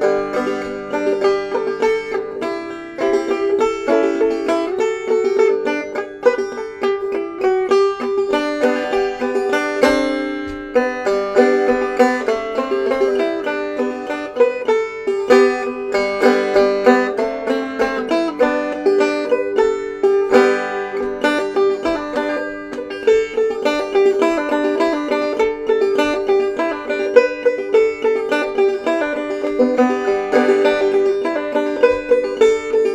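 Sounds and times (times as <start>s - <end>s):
banjo playing old-time tune: 0.0s - 32.9s.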